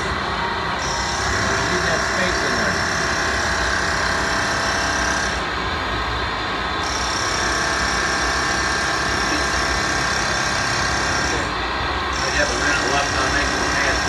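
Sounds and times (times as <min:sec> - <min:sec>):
high machine tone: 0:00.0 - 0:14.0
machine whine: 0:00.0 - 0:14.0.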